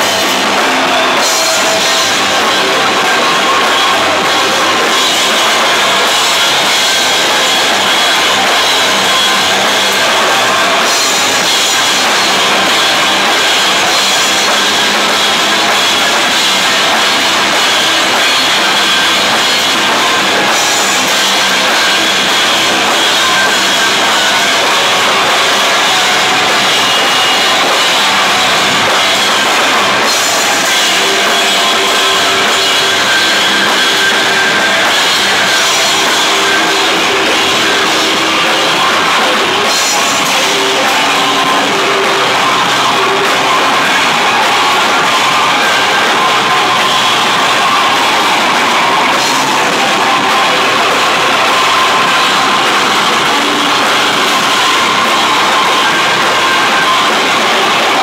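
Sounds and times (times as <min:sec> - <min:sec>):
drum kit pounding: 0:00.0 - 0:58.0
heavy rock band playing live: 0:00.0 - 0:58.0.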